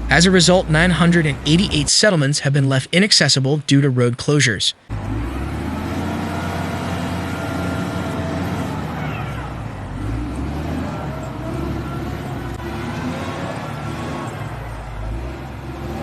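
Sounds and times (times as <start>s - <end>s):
vehicle engine droning: 0.0s - 2.2s, 4.8s - 16.0s.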